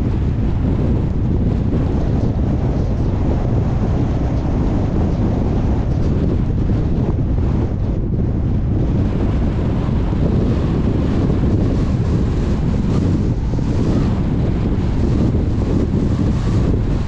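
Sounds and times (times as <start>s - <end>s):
car wind and road noise: 0.0s - 17.0s
wind buffeting microphone: 0.0s - 17.0s.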